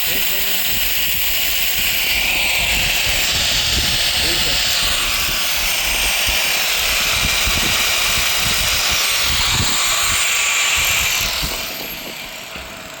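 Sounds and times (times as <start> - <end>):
power tool running with hiss: 0.0 - 13.0.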